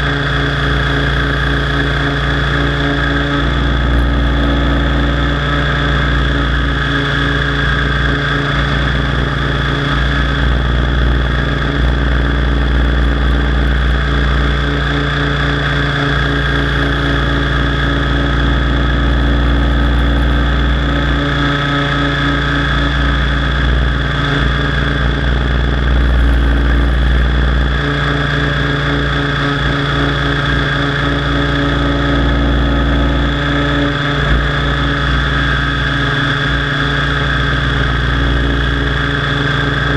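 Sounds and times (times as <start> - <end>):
high steady whine: 0.0 - 39.9
model helicopter drone: 0.0 - 39.9.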